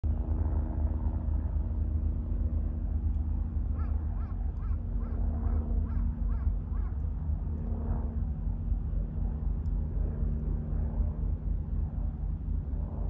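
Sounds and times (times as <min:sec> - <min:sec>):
low rumble and hum: 0:00.0 - 0:13.0.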